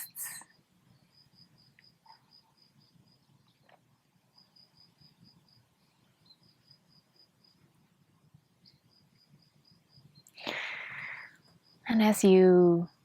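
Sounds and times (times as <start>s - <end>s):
faint cricket chirping: 0.0s - 13.0s.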